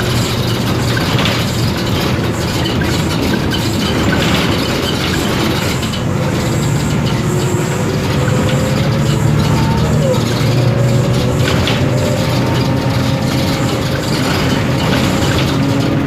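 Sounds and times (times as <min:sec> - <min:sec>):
bus diesel engine running: 0:00.0 - 0:16.0
rattles of loose interior parts: 0:00.0 - 0:16.0
road noise: 0:00.0 - 0:16.0.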